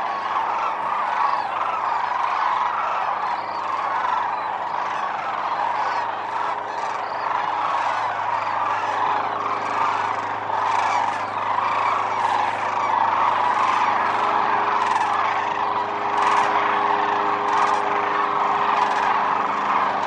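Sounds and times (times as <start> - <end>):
cranes calling in chorus: 0.0 - 20.0.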